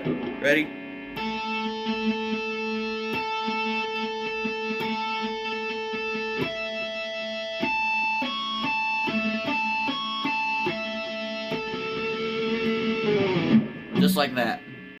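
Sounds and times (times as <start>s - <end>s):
guitar tapped harmonics: 0.0s - 15.0s.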